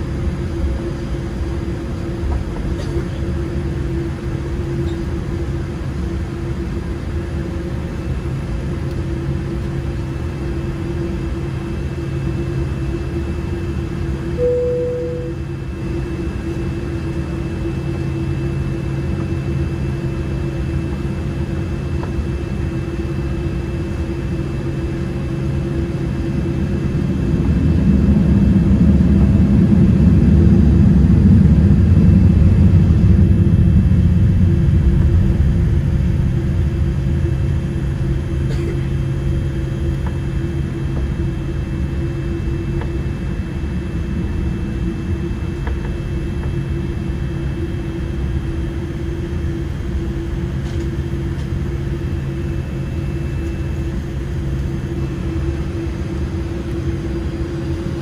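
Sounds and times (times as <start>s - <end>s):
aircraft cabin low rumble: 0.0s - 58.0s
steady hum: 0.0s - 58.0s.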